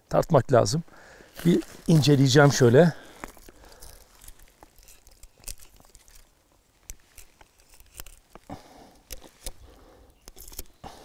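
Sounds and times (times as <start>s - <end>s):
knife scraping bark: 1.4s - 11.0s.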